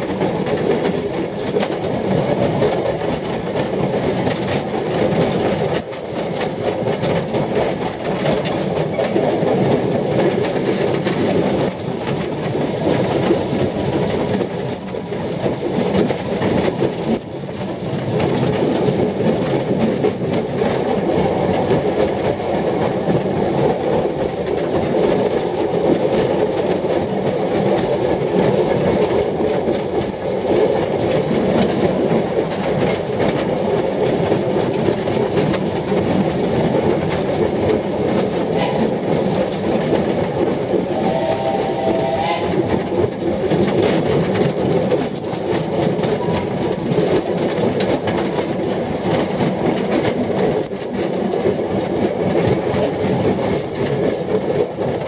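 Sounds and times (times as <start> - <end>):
carriage wheels rumbling on rails: 0.0 - 55.0.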